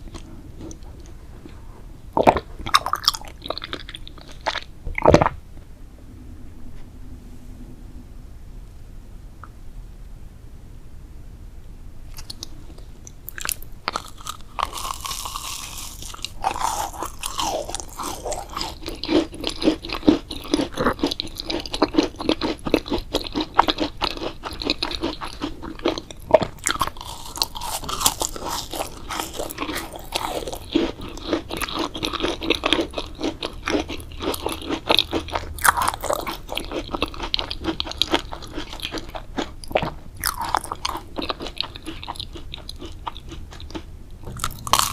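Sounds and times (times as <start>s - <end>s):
chewing crunchy food: 0.0s - 5.3s, 12.1s - 44.9s.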